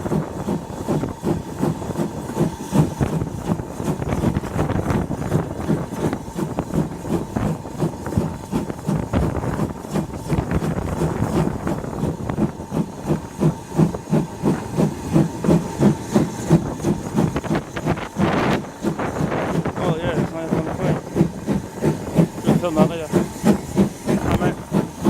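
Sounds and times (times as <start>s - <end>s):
rumble and hiss of moving train: 0.0s - 25.0s
steam locomotive exhaust beats: 0.0s - 25.0s.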